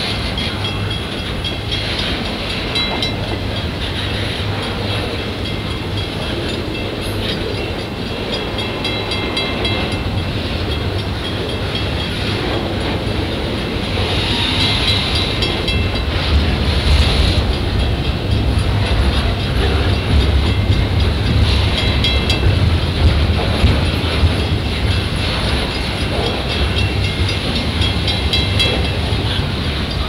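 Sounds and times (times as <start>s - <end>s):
train wheels rumbling on rails: 0.0s - 30.0s
level-crossing bell ringing: 0.3s - 12.6s, 14.7s - 16.4s, 17.5s - 22.8s, 24.1s - 30.0s.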